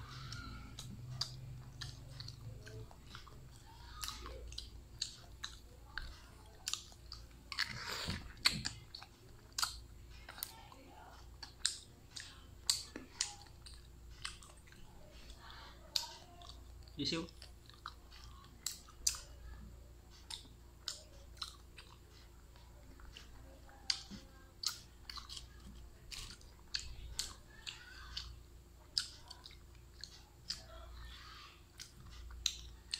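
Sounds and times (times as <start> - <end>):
wet chewing with clicks: 0.0 - 32.9.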